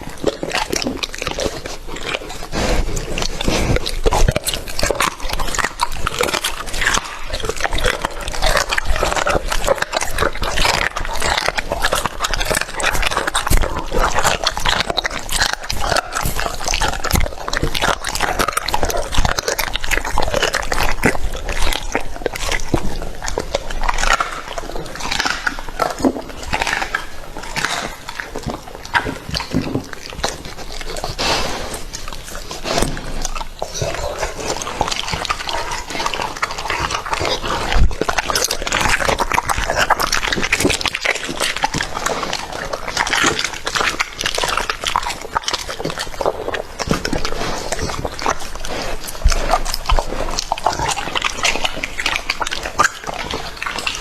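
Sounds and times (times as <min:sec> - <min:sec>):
dog chewing and crunching: 0:00.0 - 0:54.0.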